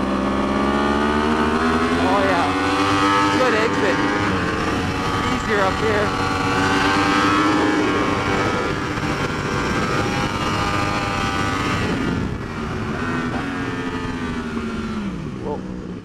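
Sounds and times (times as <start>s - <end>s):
motorcycle engine at speed: 0.0s - 16.0s
wind rush: 2.6s - 16.0s.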